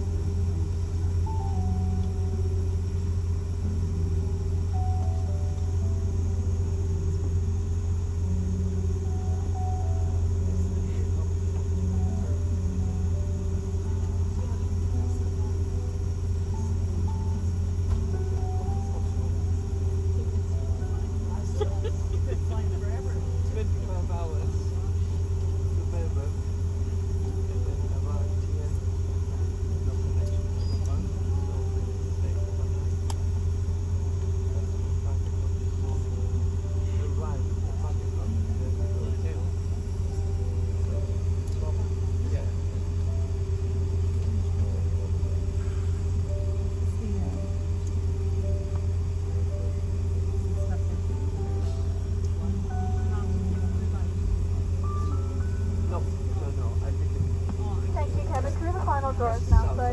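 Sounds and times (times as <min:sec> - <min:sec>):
cabin air-conditioning hum: 0:00.0 - 0:59.9
constant high tone: 0:00.0 - 0:59.9
passenger voices murmuring: 0:00.0 - 0:59.9.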